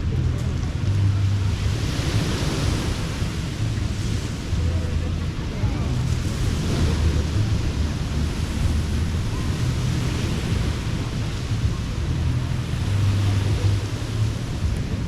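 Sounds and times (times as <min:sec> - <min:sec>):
surf washing onto beach: 0:00.0 - 0:15.0
wind rumble on microphone: 0:00.0 - 0:15.0.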